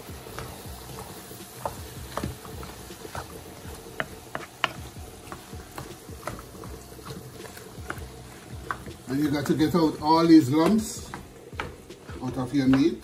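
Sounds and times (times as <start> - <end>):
wooden spoon scraping metal pot: 0.0 - 13.0.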